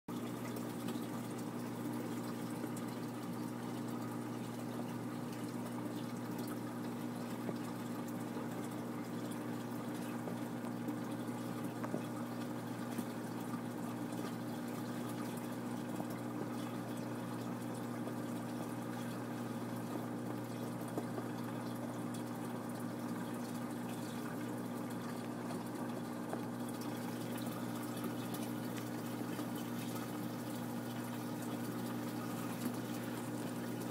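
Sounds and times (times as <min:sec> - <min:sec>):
pump humming: 0:00.1 - 0:33.9
water trickling and splashing: 0:00.1 - 0:33.9.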